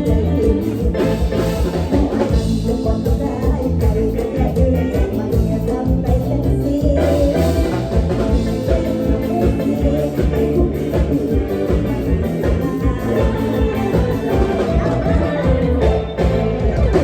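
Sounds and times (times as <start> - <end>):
bass and drums beat: 0.0 - 17.0
folk band playing lively tune: 0.0 - 17.0.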